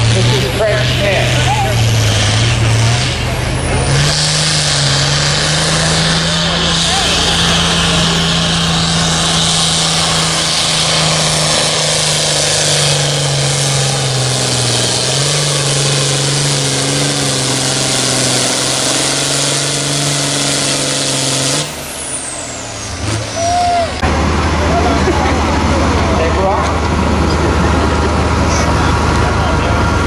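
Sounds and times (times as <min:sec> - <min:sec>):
tractor engine at full throttle: 0:00.0 - 0:30.0.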